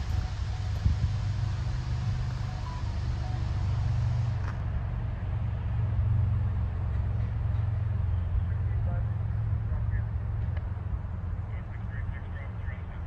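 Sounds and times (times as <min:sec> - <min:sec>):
diesel locomotive engines droning: 0:00.0 - 0:13.0.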